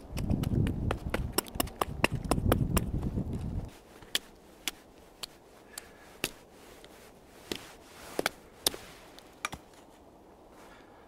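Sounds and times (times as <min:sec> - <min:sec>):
knife chipping wood: 0:00.0 - 0:09.8.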